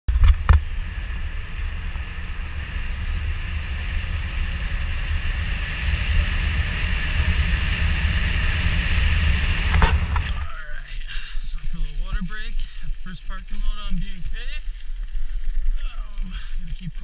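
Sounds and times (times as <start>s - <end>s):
bike tyre and drivetrain noise: 0.1s - 17.0s.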